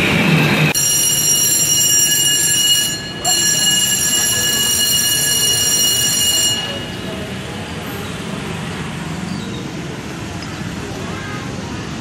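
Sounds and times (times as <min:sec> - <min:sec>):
motorbike traffic drone: 0:00.0 - 0:12.0.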